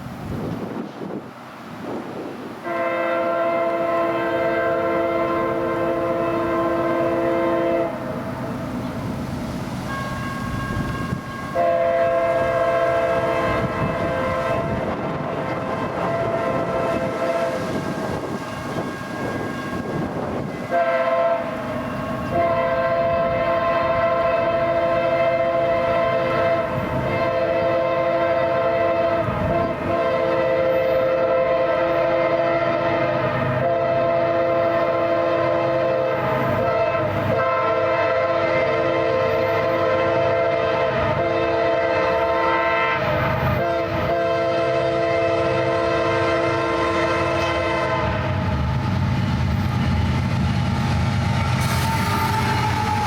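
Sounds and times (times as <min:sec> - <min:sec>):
railcars rolling: 0:00.0 - 0:53.0
locomotive air horn blasts: 0:02.6 - 0:08.5, 0:09.8 - 0:48.5, 0:51.4 - 0:53.0.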